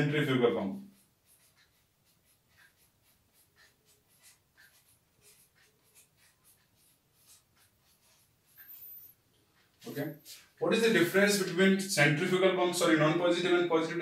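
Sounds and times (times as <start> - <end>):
marker writing on whiteboard: 0.0 - 11.6.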